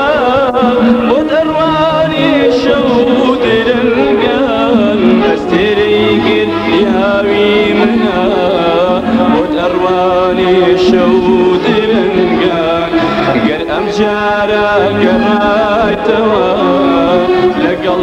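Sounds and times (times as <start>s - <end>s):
instrumental ensemble music: 0.0s - 18.0s.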